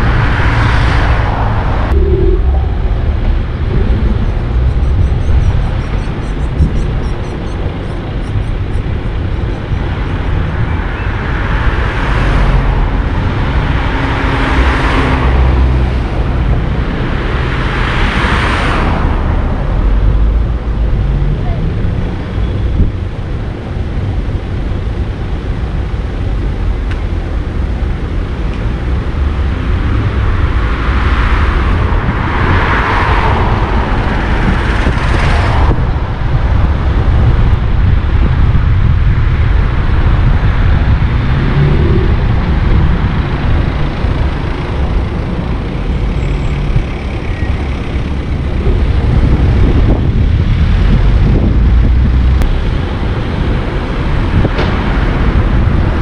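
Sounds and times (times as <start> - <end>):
car engine tyres and wind rumble: 0.0 - 56.0
rushing noise: 0.0 - 56.0.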